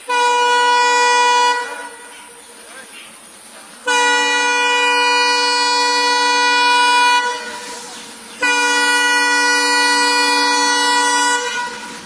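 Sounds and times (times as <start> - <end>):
locomotive air horn blasts: 0.0 - 2.3, 3.8 - 12.0.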